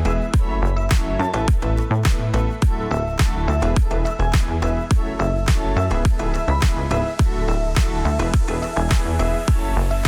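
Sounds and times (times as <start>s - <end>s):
upbeat background music: 0.0s - 10.0s
kick drum beat: 0.4s - 9.7s.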